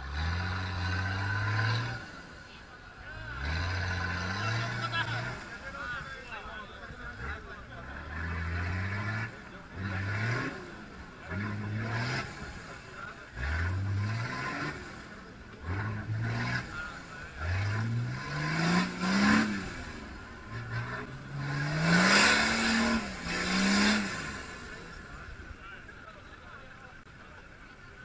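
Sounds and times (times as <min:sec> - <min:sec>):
engine revving: 0:00.0 - 0:25.6.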